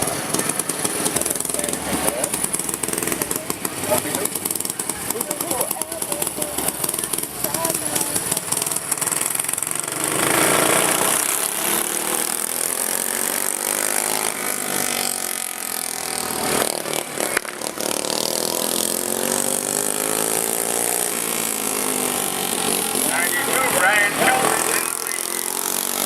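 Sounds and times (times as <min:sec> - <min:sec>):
racing lawn mower engines revving: 0:00.0 - 0:26.0.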